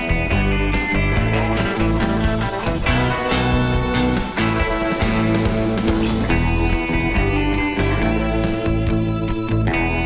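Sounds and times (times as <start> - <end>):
drum beat: 0.0 - 8.2
guitar music: 0.0 - 10.0.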